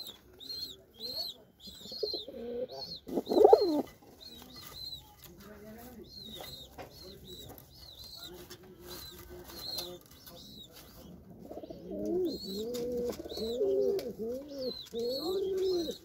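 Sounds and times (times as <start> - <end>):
pigeons cooing: 0.0 - 5.0, 6.1 - 16.0.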